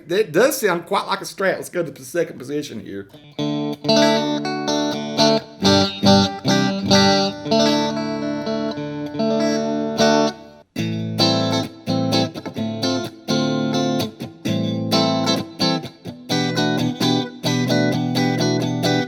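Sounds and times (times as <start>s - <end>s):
clean electric guitar: 3.0s - 19.0s.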